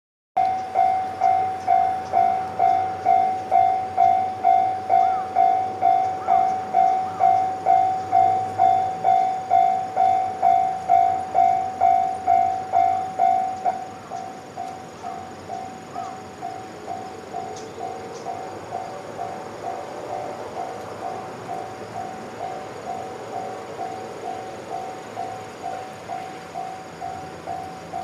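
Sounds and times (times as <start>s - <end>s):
level-crossing alarm bell ringing: 0.4s - 28.0s.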